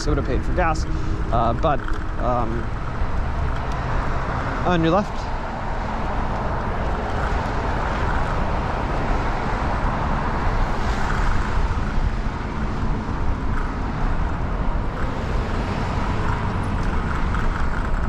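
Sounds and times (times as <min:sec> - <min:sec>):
cars passing: 0:00.0 - 0:18.0
wind and road noise: 0:00.0 - 0:18.0.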